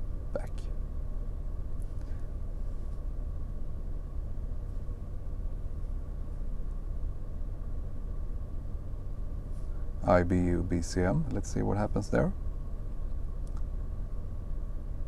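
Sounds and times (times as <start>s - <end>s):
low hum inside car cabin: 0.0s - 15.0s.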